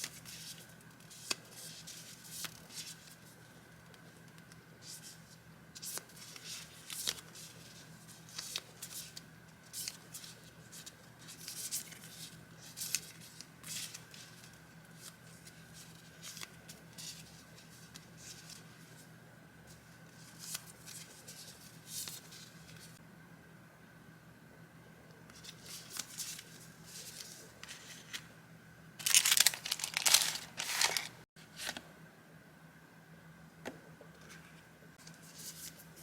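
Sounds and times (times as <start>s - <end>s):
paper rustling and shuffling: 0.0s - 19.1s, 19.7s - 23.0s, 25.3s - 28.3s, 29.0s - 31.9s, 34.2s - 36.0s
faint steady hum: 0.0s - 36.0s.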